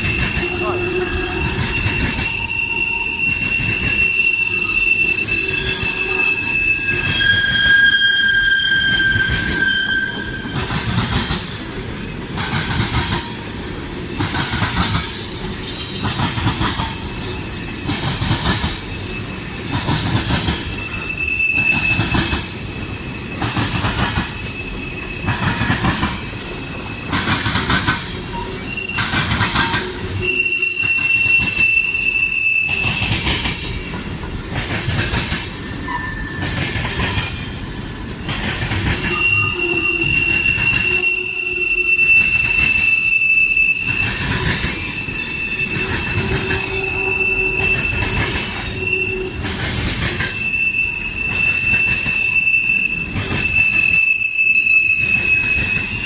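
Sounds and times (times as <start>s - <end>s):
freight train rolling past: 0.0s - 56.0s
train wheels squealing: 0.0s - 56.0s.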